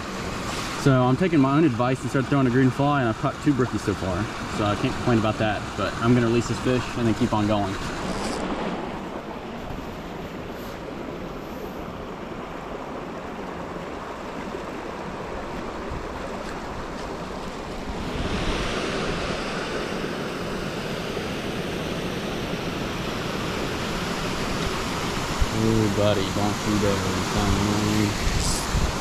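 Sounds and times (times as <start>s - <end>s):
small waterfall: 0.0s - 9.6s, 10.6s - 29.0s
creek running over rocks: 0.0s - 21.6s, 22.4s - 29.0s.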